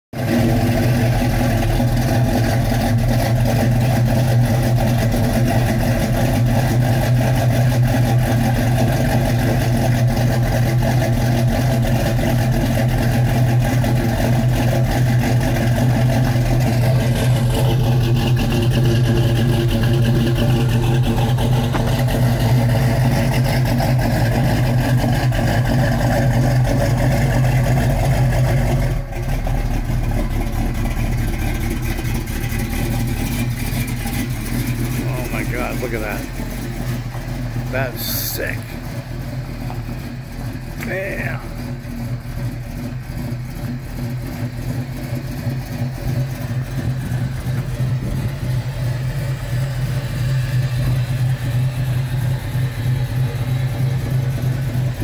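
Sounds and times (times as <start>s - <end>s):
car engine idling: 0.1s - 55.0s.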